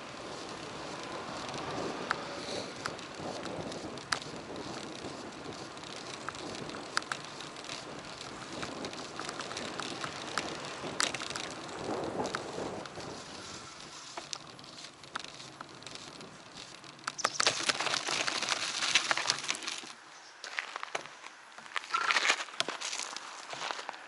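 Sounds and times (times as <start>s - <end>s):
bike rattling clicks: 0.0s - 23.7s
tyre and road noise: 0.0s - 24.0s.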